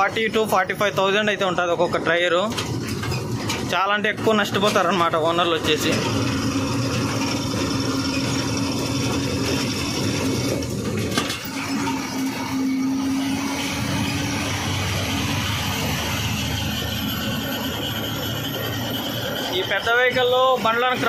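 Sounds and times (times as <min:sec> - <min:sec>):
road noise: 0:00.0 - 0:21.0
truck diesel engine droning: 0:00.0 - 0:21.0.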